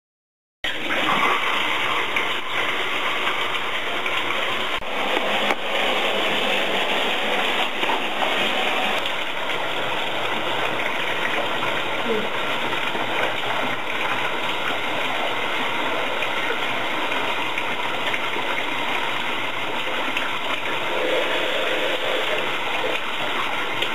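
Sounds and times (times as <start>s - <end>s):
shower water spraying: 0.7s - 23.9s.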